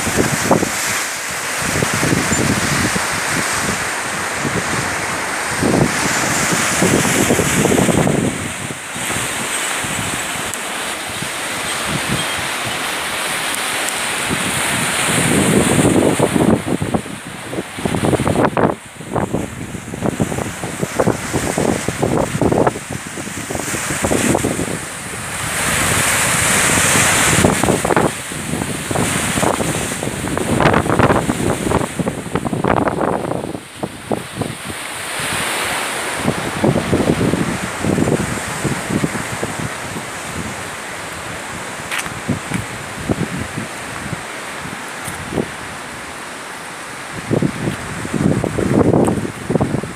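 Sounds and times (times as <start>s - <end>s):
sea surf rushing: 0.0s - 49.9s
wind buffeting microphone: 0.0s - 49.9s.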